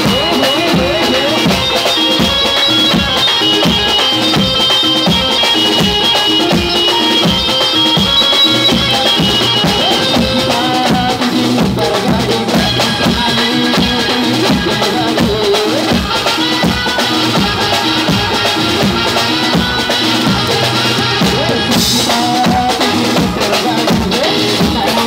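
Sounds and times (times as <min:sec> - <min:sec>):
man singing: 0:00.0 - 0:04.7, 0:08.4 - 0:25.0
live band music: 0:00.0 - 0:25.0.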